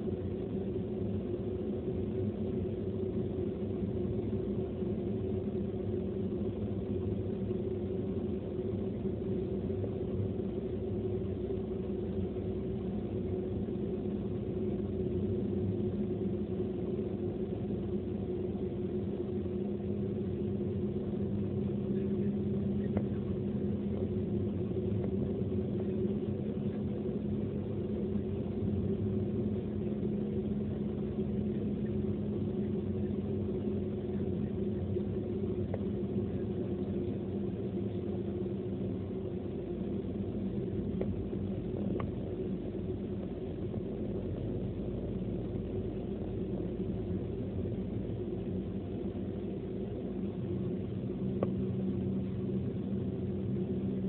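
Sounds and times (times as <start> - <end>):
car engine hum: 0.0 - 54.0.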